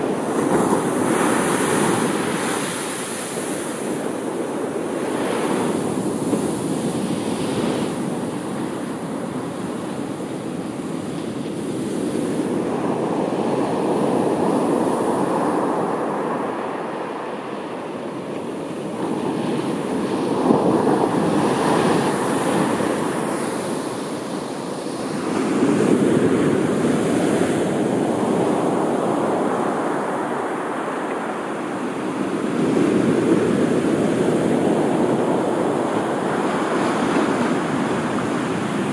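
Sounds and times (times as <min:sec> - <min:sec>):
waves breaking on shore: 0:00.0 - 0:38.9
wind on microphone: 0:00.0 - 0:38.9.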